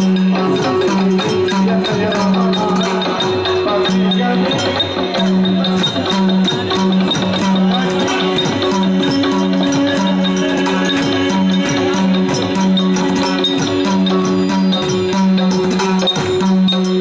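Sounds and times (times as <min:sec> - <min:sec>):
hand drum strokes: 0:00.0 - 0:17.0
held drone note: 0:00.0 - 0:17.0
small hand cymbals: 0:00.0 - 0:17.0.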